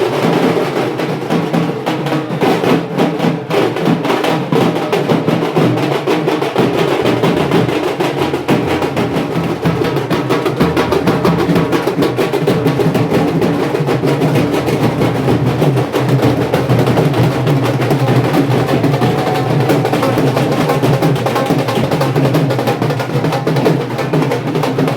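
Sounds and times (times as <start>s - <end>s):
music with fast drumming: 0.0s - 24.9s.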